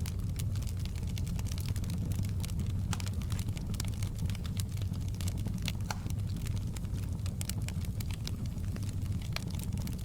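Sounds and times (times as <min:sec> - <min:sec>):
low rumble of burning fire: 0:00.0 - 0:10.0
wood fire crackling: 0:00.0 - 0:10.0.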